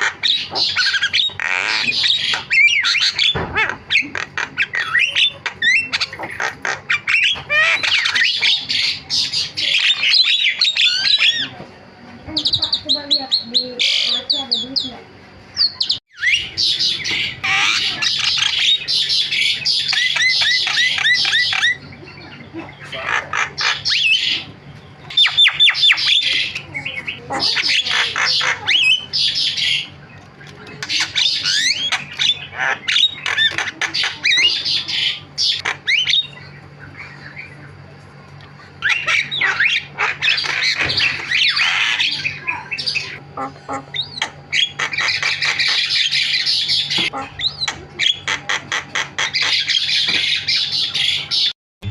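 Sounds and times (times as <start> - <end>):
myna chattering: 0.0 - 51.9.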